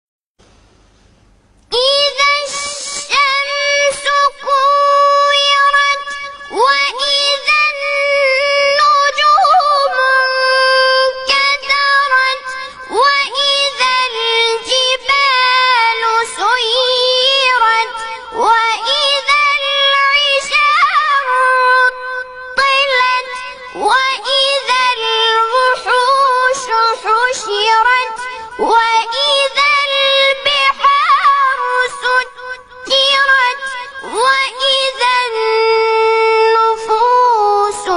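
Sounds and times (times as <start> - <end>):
melodic recitation high-pitched voice: 1.7 - 37.9.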